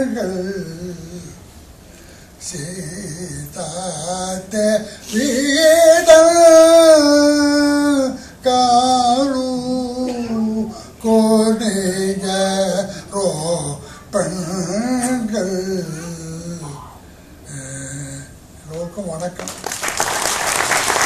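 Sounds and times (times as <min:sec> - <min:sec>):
man singing long notes: 0:00.0 - 0:01.4, 0:02.4 - 0:18.4.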